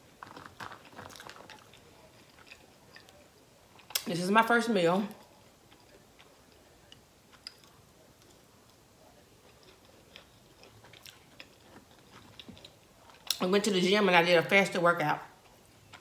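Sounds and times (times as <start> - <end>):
faint chewing: 0.0 - 4.1, 5.1 - 13.4, 15.3 - 16.0.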